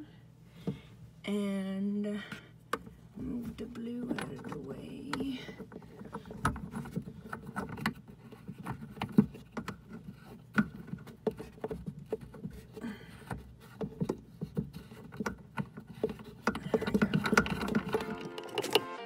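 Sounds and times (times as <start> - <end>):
hands threading nuts clicking: 3.7 - 19.0.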